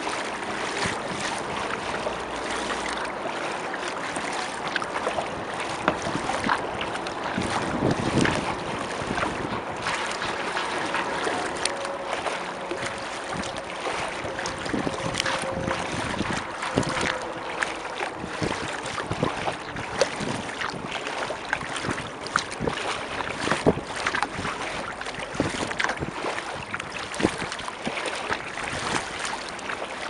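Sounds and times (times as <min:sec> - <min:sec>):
water lapping against kayak hull: 0:00.0 - 0:30.0.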